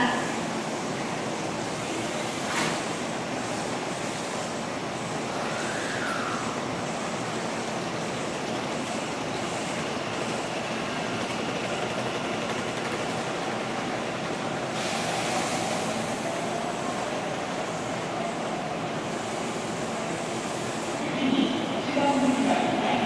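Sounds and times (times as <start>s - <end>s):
train equipment hum and hiss: 0.0s - 23.0s.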